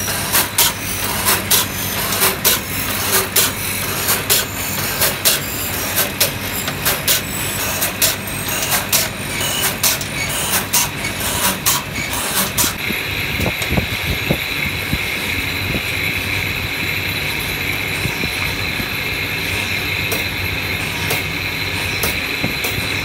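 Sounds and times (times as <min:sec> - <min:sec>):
lathe running with high whine: 0:00.0 - 0:23.0.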